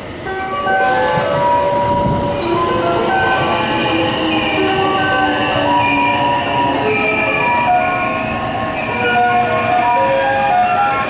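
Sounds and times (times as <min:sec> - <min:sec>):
train rumble: 0:00.0 - 0:11.0
train wheels squealing on rails: 0:00.8 - 0:11.0.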